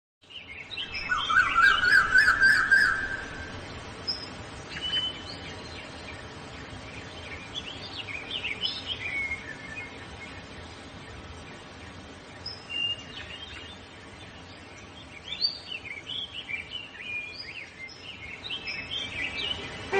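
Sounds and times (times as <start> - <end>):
birds chirping and singing: 0.2 - 19.9
faint background hiss: 0.2 - 19.9.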